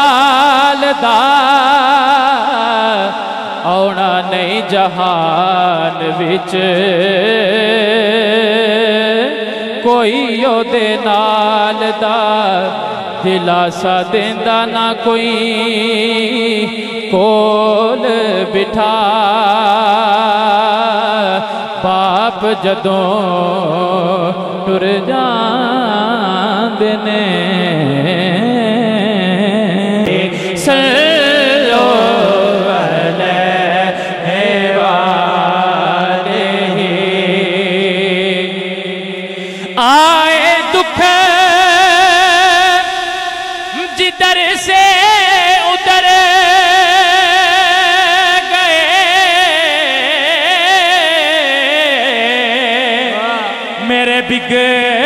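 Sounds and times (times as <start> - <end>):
man singing through pa: 0.0 - 55.0.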